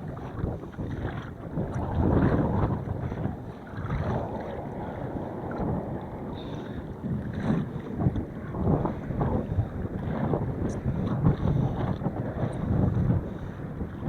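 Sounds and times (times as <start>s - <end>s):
gusty wind on microphone: 0.0s - 14.0s
water sounds: 0.0s - 14.0s.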